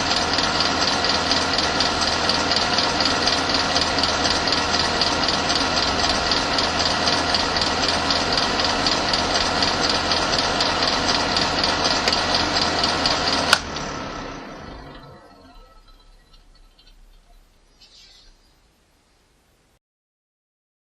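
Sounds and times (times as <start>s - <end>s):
electric fan whirring: 0.0s - 18.8s.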